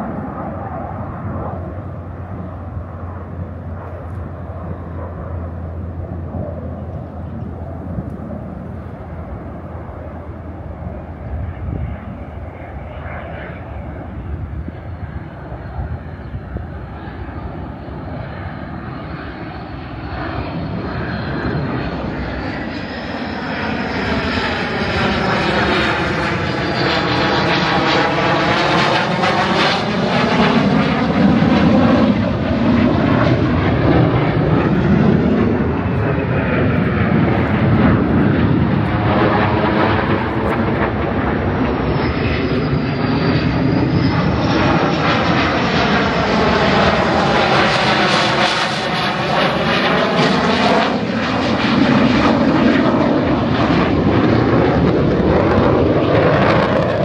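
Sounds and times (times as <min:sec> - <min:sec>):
fighter jet flying overhead: 0:00.0 - 0:57.0.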